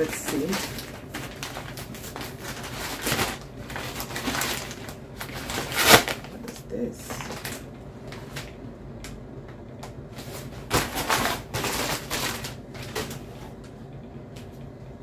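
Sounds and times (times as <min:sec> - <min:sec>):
paper packaging rustling: 0:00.0 - 0:08.6, 0:10.1 - 0:13.7.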